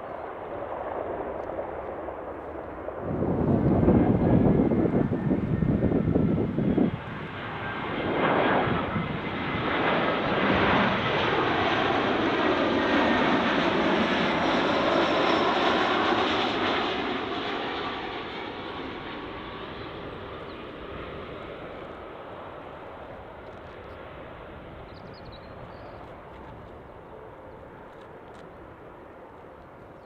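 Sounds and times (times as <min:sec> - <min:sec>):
airliner flying over: 0:00.0 - 0:30.0.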